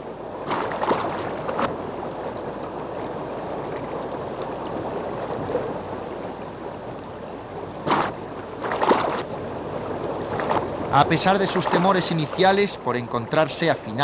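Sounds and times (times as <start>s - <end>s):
river water rushing: 0.0s - 14.0s
water splashes: 0.0s - 14.0s.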